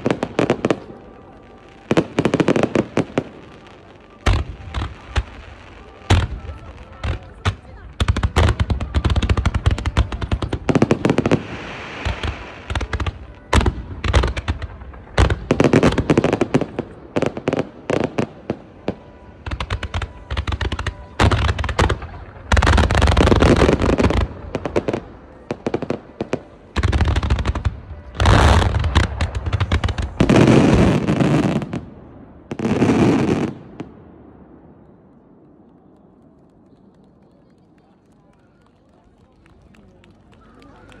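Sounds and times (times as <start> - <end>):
fireworks bangs: 0.0 - 41.0
rolling volleys of fireworks: 0.0 - 41.0.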